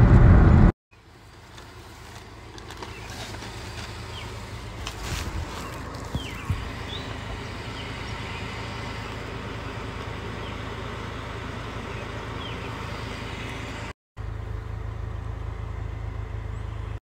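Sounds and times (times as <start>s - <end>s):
car interior hum: 0.0s - 17.0s
low outdoor rumble: 0.0s - 17.0s.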